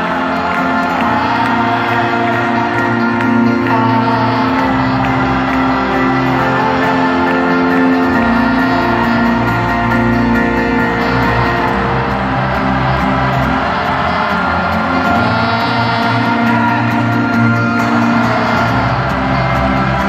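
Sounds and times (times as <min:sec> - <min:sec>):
keyboard: 0:00.0 - 0:20.0
upright bass: 0:00.0 - 0:20.0.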